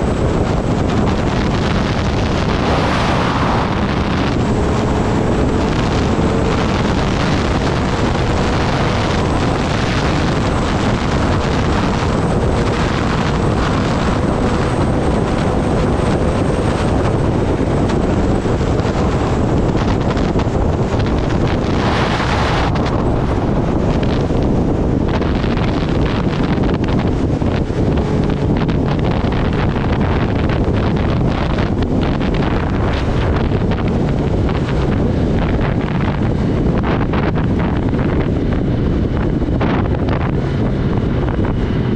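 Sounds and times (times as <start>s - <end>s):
motorcycle engine: 0.0s - 41.9s
road noise: 0.0s - 41.9s
wind buffeting microphone: 0.0s - 41.9s.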